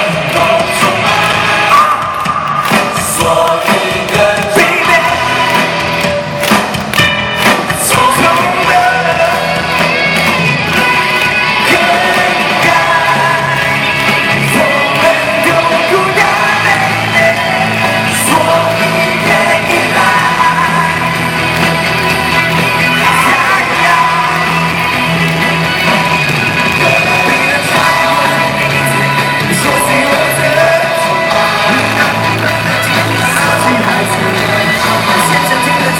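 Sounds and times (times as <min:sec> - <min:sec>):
man singing: 0:00.0 - 0:06.3, 0:07.5 - 0:35.9
live pop-rock band music: 0:00.0 - 0:35.9.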